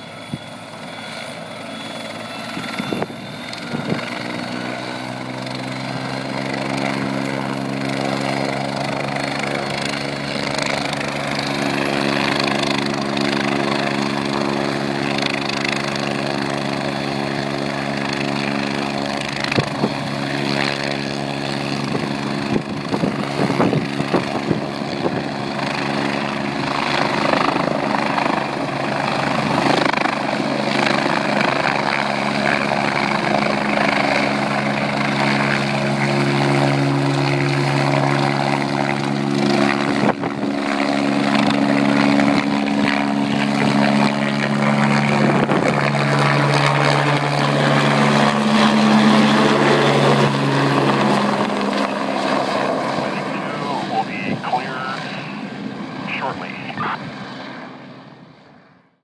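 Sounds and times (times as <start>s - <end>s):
helicopter rotor and turbine engine: 0.0s - 59.0s.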